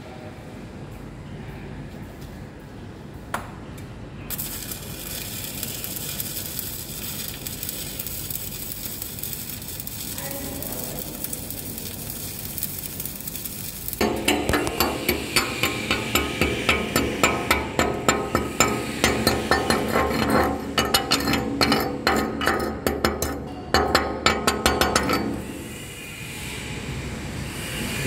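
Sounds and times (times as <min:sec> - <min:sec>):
welding arc crackling and sizzling: 0:04.3 - 0:26.9.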